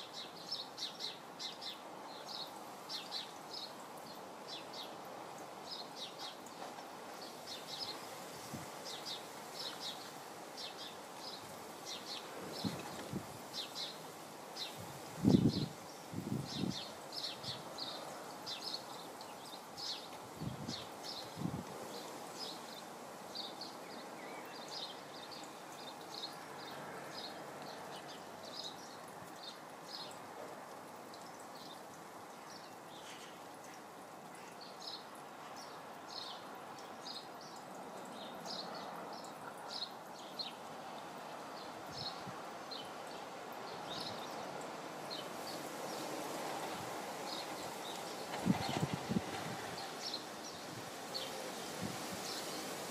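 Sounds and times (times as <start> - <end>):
small birds chirping: 0.0 - 52.9
steady background hiss: 0.0 - 52.9.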